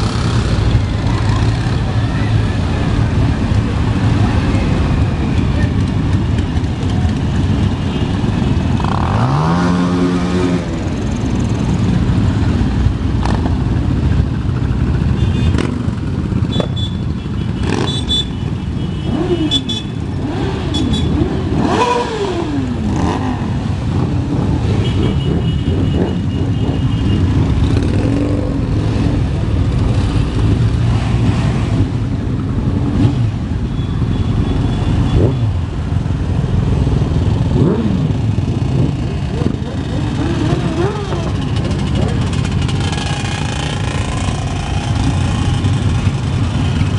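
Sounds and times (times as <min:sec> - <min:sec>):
motorcycle engines running: 0:00.0 - 0:46.9
motorcycles revving: 0:00.0 - 0:46.9.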